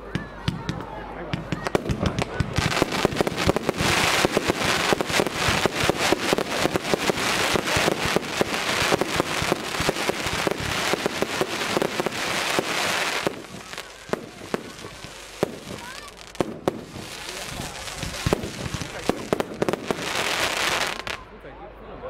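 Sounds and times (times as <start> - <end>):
fireworks bangs and crackle: 0.0 - 21.2
fireworks hiss: 1.8 - 21.2.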